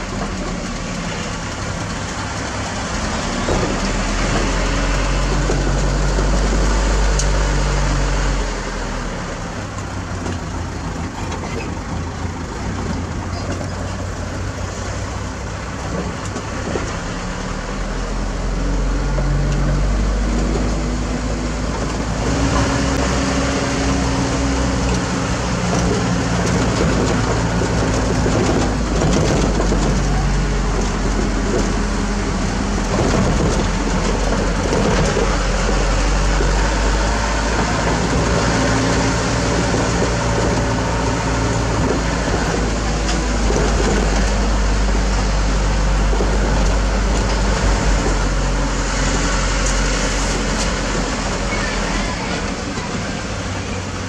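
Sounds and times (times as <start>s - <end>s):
road noise: 0.0s - 54.0s
truck engine running: 0.0s - 54.0s.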